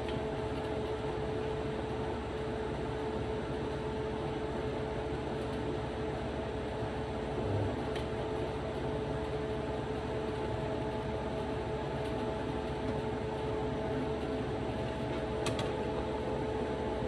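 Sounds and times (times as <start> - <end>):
fan motor humming: 0.0 - 17.0.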